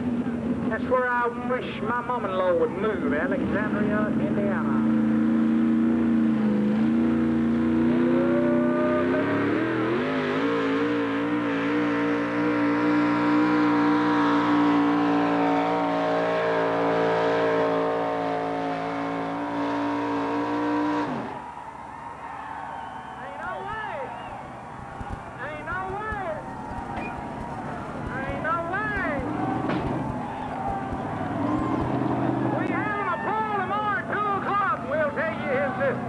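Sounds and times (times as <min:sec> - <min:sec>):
truck engine at full throttle: 0:00.0 - 0:21.5, 0:23.6 - 0:36.0.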